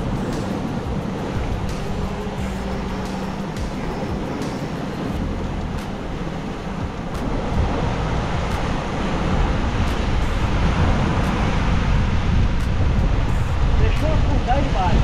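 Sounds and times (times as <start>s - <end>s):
sea surf on rocky shore: 0.0s - 15.0s
wind on microphone: 0.0s - 15.0s.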